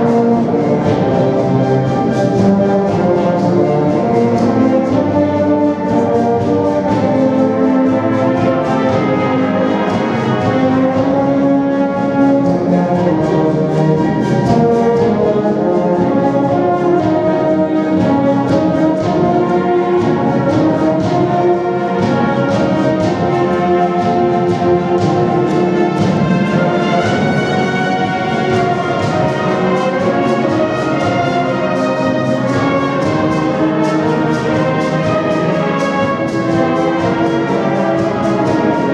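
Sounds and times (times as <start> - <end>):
wind band playing: 0.0 - 38.9.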